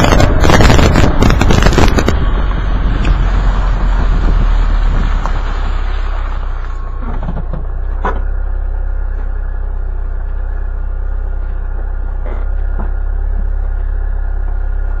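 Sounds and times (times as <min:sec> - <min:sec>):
tyre and road rumble: 0:00.0 - 0:15.0.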